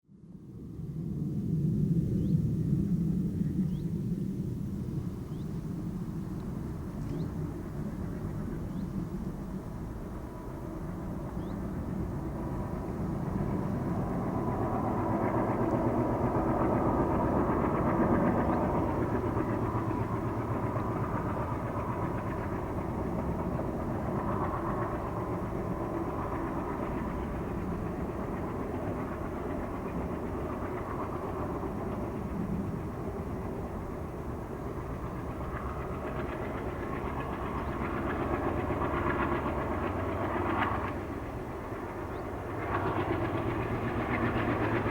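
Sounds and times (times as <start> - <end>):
diesel locomotive engine rumbling: 4.6 - 44.9.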